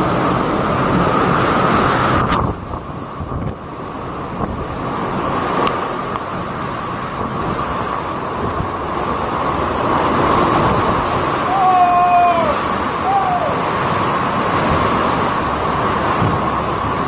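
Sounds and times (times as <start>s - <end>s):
driving rain: 0.0s - 17.0s
strong wind: 0.0s - 17.0s
wind buffeting microphone: 0.0s - 17.0s.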